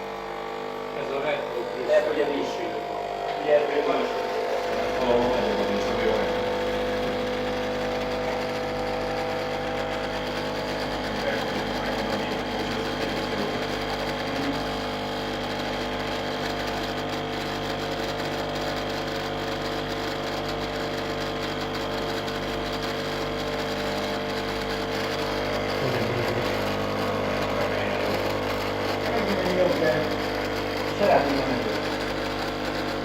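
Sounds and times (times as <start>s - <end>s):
coffee machine pump buzzing: 0.0s - 33.0s.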